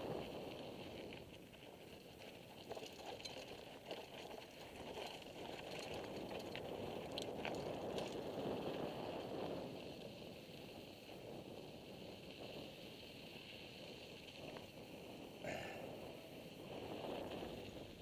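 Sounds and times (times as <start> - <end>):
bike rattling: 0.0 - 18.0.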